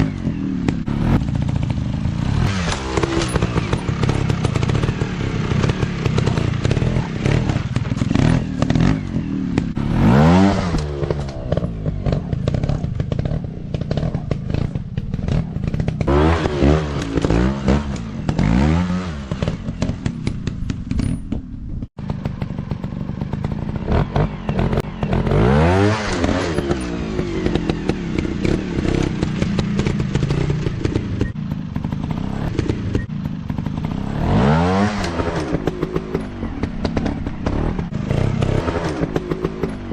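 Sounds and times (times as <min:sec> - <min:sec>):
dirt bike engine revving: 0:00.0 - 0:21.2, 0:22.0 - 0:39.9.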